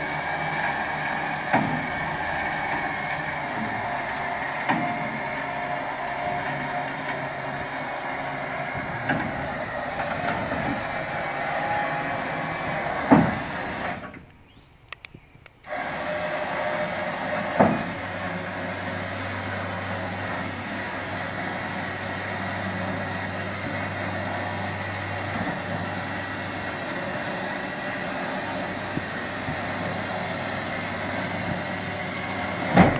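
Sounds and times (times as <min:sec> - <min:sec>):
motorcycle lift drive running: 0:00.0 - 0:14.4, 0:15.6 - 0:32.9.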